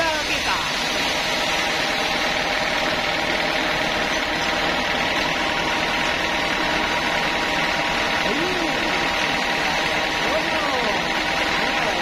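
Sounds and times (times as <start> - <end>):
band sawmill humming: 0.0 - 12.0.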